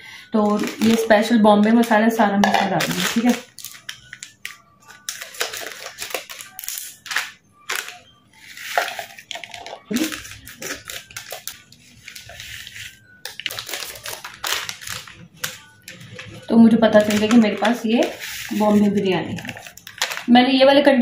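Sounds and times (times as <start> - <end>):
foil sachets crinkling: 0.2 - 20.3.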